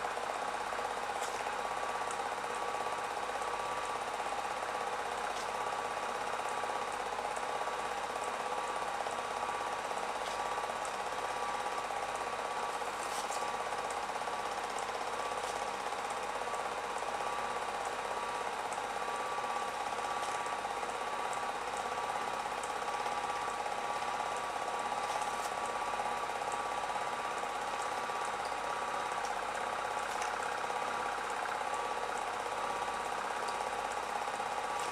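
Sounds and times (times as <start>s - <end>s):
film projector whirring and rattling: 0.0s - 34.9s.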